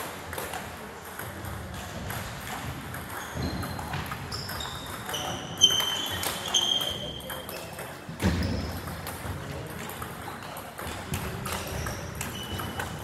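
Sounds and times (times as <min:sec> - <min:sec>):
table tennis balls clicking: 0:00.2 - 0:13.0.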